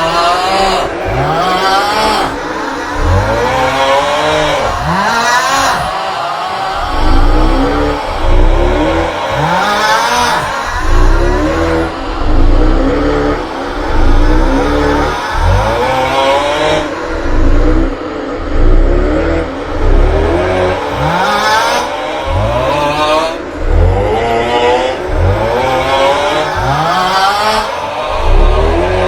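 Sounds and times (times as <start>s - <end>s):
pulsing bass: 0.0s - 5.9s, 6.8s - 29.0s
looped snore-groan: 0.0s - 29.0s.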